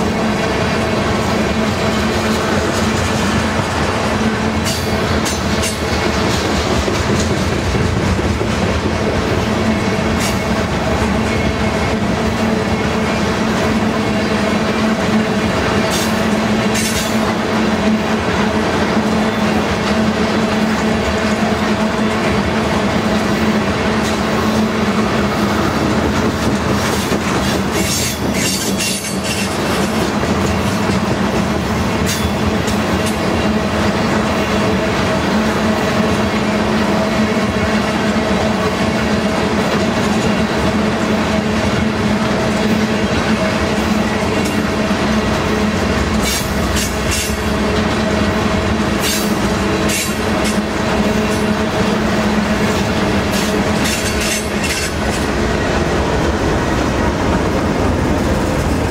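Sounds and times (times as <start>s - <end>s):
rail joint clicks: 0.0s - 58.9s
train wheels rumbling over rails: 0.0s - 58.9s.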